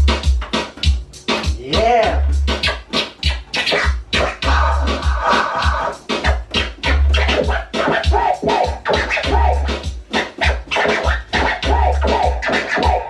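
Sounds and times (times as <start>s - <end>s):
dj scratching music with bass: 0.0s - 13.0s.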